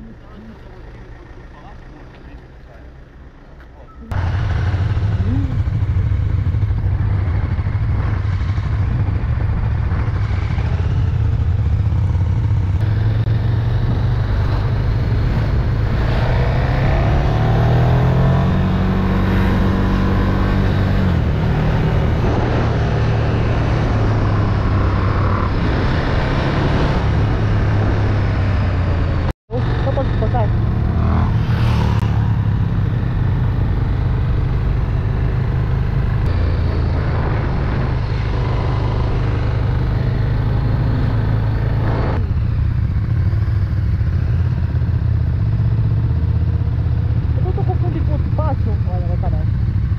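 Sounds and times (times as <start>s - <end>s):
motorcycle engine revving: 4.1s - 49.9s.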